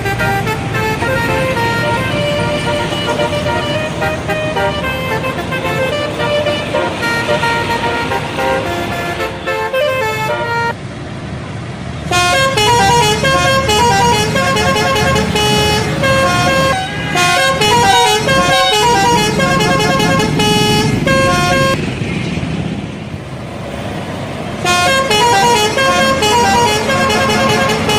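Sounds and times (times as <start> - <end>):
multi-tone air horn melodies: 0.0 - 10.8, 12.1 - 21.8, 24.6 - 27.9.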